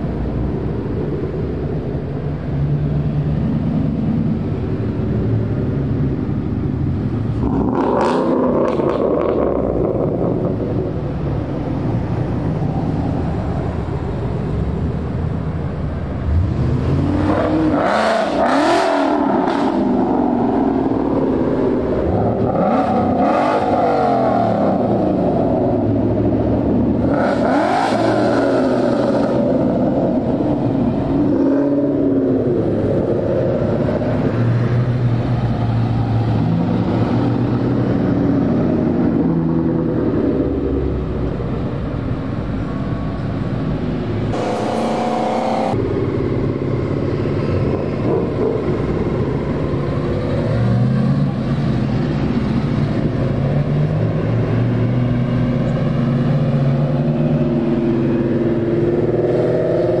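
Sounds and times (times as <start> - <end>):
car engines passing: 0.0 - 60.0.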